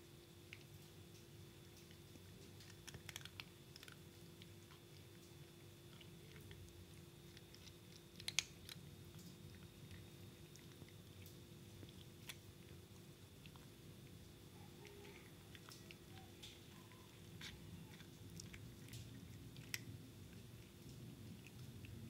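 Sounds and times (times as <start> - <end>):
faint steady hum: 0.0 - 22.0
cats crunching dry kibble: 0.5 - 22.0.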